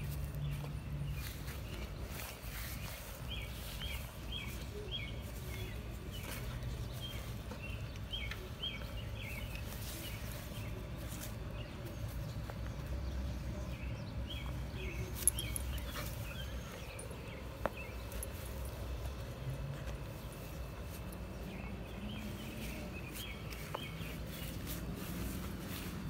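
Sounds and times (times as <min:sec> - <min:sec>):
rustling in grass: 0:00.0 - 0:13.6, 0:14.2 - 0:26.0.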